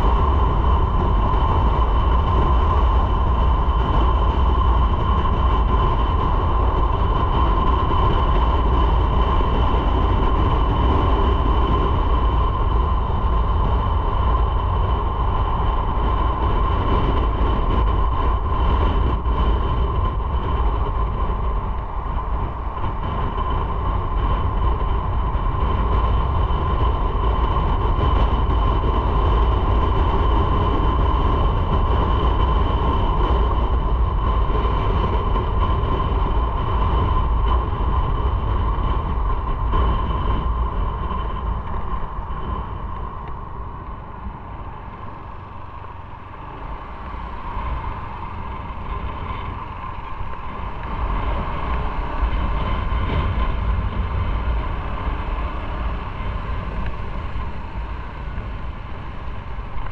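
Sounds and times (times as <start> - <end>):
constant whine: 0.0 - 59.9
motorcycle engine and wind noise: 0.0 - 59.9.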